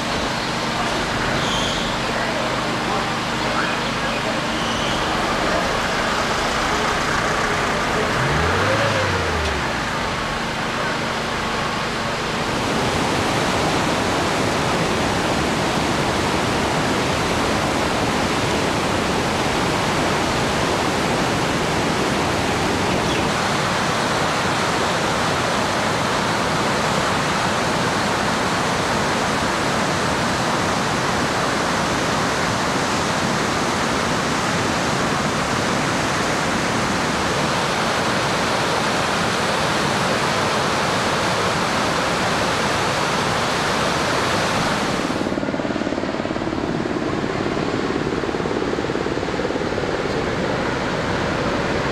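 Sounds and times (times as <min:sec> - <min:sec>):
rushing river water: 0:00.0 - 0:45.4.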